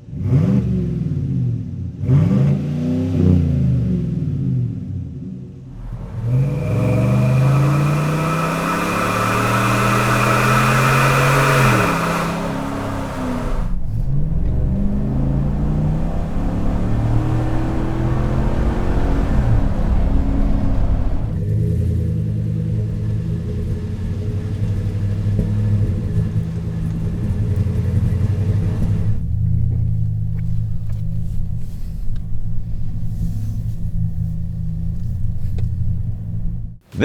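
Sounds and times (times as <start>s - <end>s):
truck engine idling rumble: 5.5s - 36.8s.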